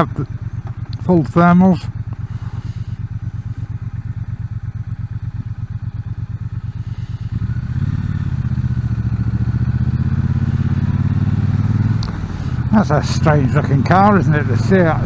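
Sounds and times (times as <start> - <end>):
motorcycle engine pulsing exhaust: 0.0 - 15.0.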